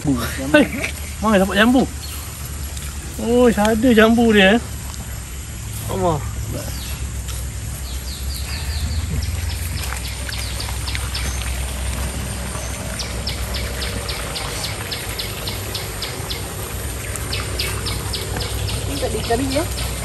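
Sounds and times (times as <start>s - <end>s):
bird chirping: 0.0s - 20.0s
low rumble: 0.0s - 20.0s.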